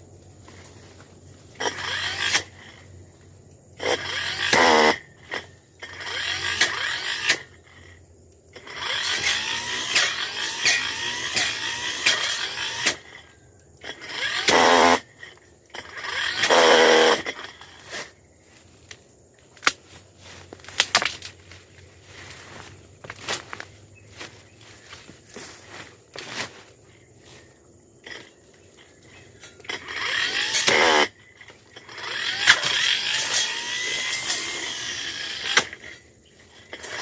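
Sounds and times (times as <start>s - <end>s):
blade cutting through brush: 0.4s - 3.0s, 3.8s - 37.0s
brush cutter engine revving: 0.4s - 19.0s, 19.6s - 37.0s.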